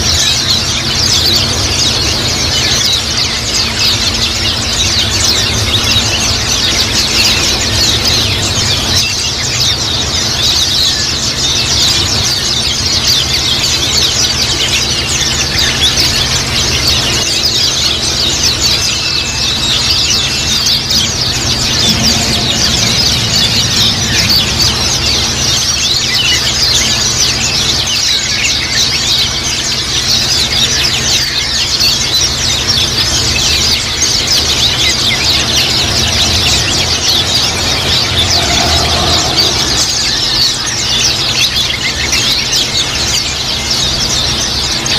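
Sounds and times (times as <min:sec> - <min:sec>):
flock of birds chirping: 0:00.0 - 0:44.9
steady low hum: 0:00.0 - 0:44.9.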